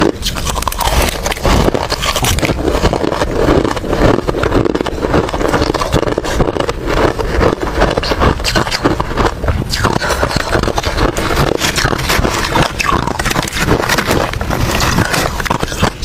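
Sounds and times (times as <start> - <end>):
ice crunching between teeth: 0.0 - 16.0.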